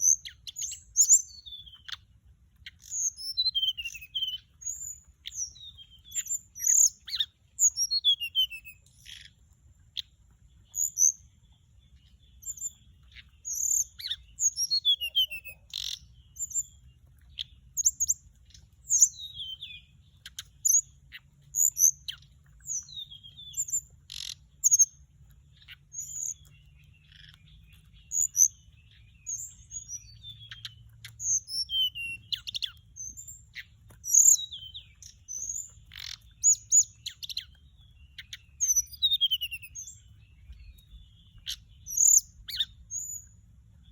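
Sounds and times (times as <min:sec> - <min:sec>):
bird chirping: 0:00.0 - 0:43.9.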